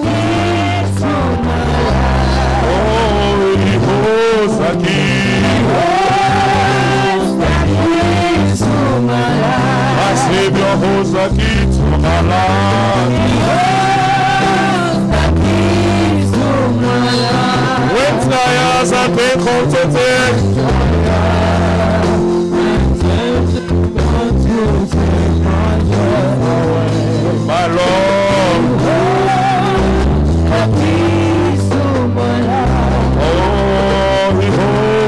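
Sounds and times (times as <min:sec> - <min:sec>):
heavy bass line: 0:00.0 - 0:35.0.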